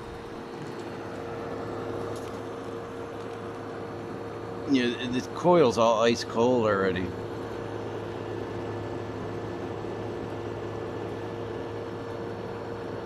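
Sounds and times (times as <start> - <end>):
compressor hum: 0.0 - 13.0
fan air rushing: 0.0 - 13.0.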